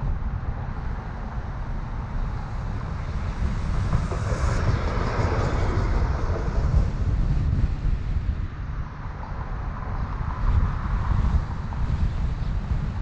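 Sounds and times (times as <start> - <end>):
car wind and road noise: 0.0 - 13.0
streetcar passing: 0.0 - 13.0.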